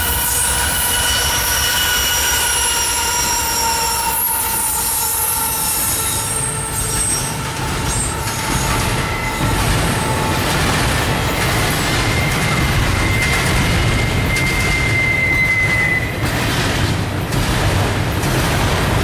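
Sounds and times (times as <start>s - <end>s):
high-pitched train squeal: 0.0s - 16.3s
container cars rolling by: 0.0s - 19.0s
locomotive rumble: 0.0s - 19.0s.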